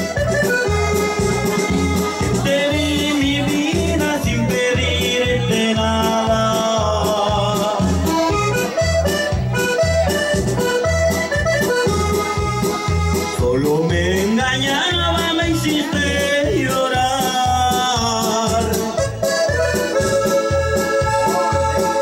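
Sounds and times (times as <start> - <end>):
accordion-like keyboard melody: 0.0 - 22.0.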